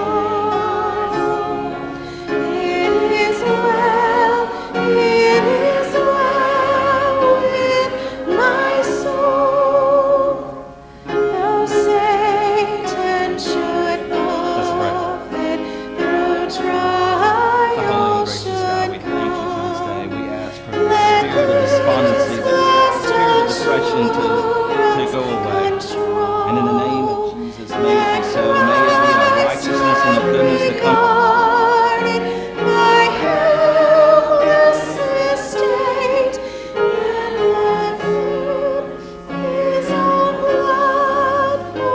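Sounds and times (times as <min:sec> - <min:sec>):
congregation singing a hymn: 0:00.0 - 0:41.9.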